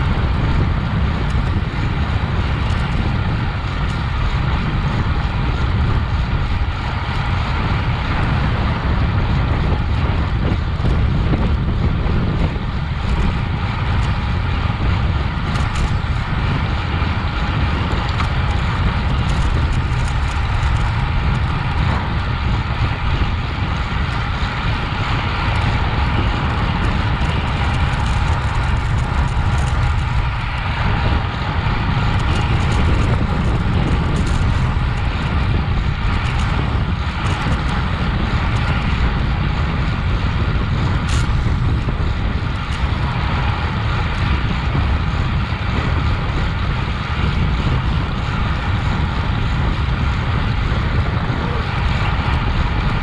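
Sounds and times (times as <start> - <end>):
wind rushing on microphone: 0.0 - 53.0.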